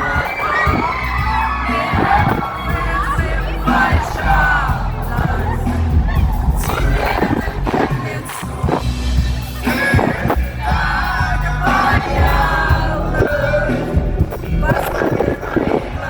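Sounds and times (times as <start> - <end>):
crowd singing along: 0.0 - 16.0
live pop song: 0.0 - 16.0.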